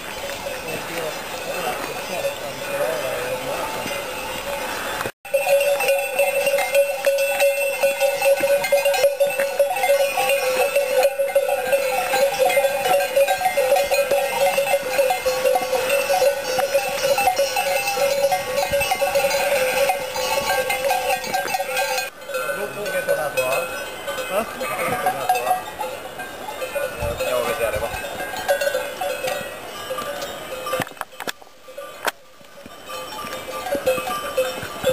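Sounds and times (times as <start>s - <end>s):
sheep bells clanking: 0.0s - 34.9s.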